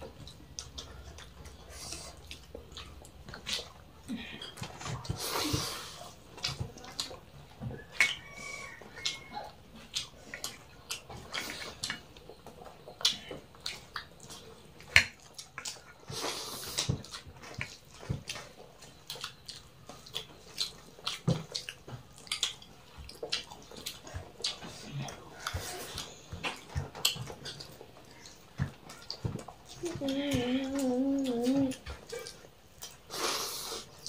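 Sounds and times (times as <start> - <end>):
chewing and lip smacks: 0.0 - 34.0.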